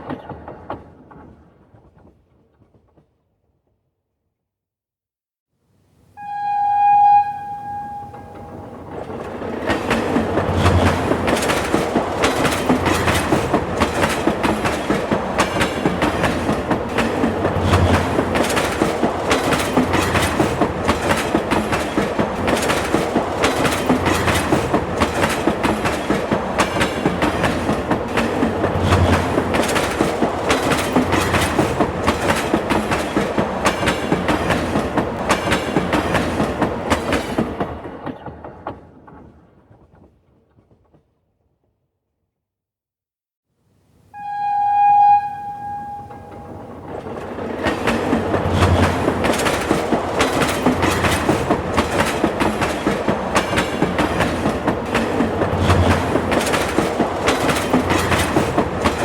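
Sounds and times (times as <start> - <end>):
train wheels clattering on rails: 0.0 - 3.2, 7.9 - 41.2, 45.6 - 59.0.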